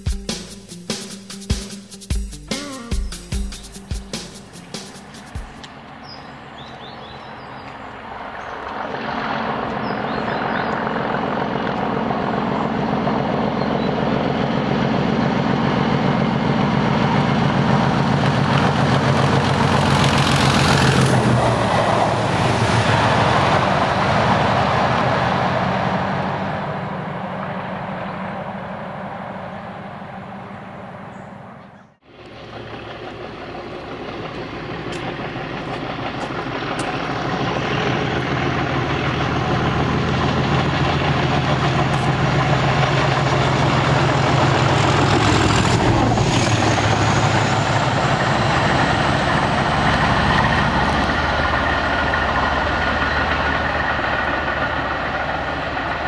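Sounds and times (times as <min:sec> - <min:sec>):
diesel locomotive engine passing: 0:00.0 - 0:56.0.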